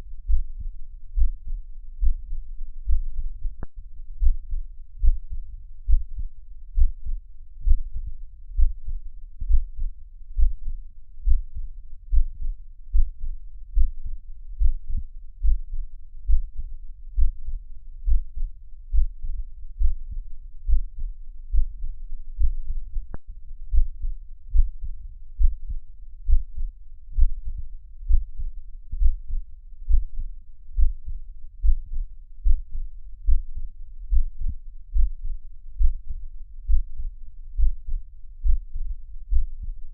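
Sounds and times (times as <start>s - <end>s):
heartbeat thumps: 0.3s - 39.9s.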